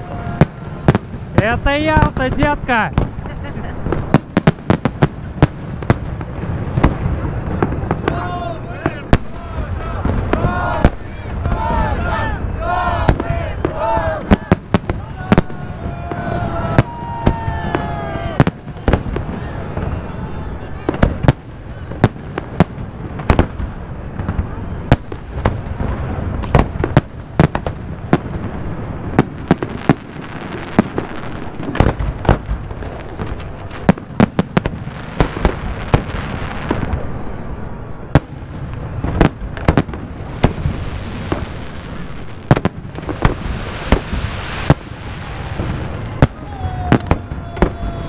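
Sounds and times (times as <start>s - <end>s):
fireworks bangs and cracks: 0.0s - 48.0s.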